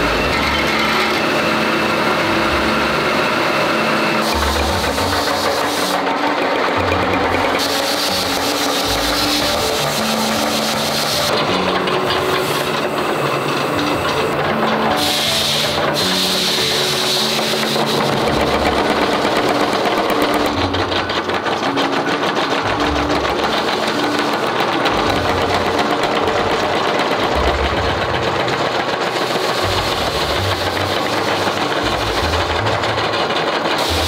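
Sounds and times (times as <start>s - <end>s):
power hammer striking steel: 0.0s - 34.0s.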